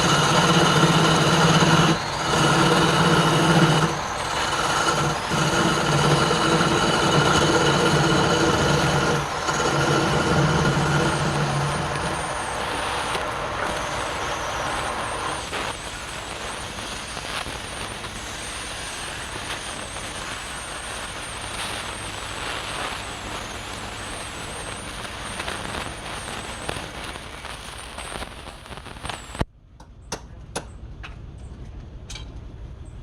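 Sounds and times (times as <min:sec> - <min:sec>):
lathe running with high whine: 0:00.0 - 0:27.2.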